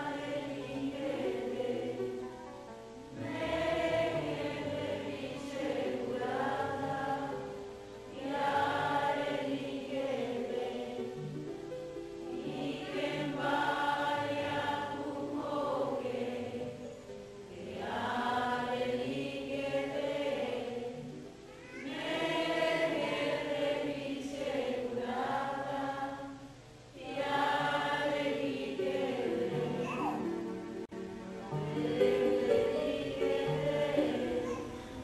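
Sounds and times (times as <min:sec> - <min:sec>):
group singing a hymn in unison: 0:00.0 - 0:02.3, 0:03.1 - 0:30.7, 0:31.4 - 0:35.0.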